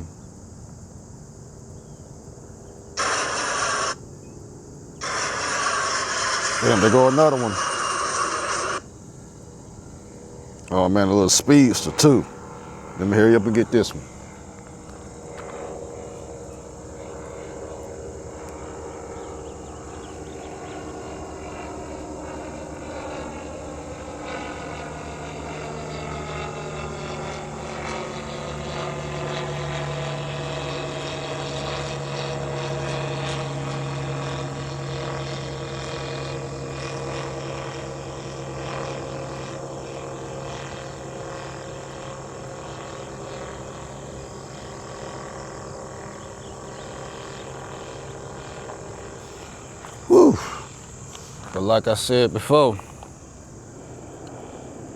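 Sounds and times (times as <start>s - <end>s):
aircraft flying past: 0.0s - 54.9s.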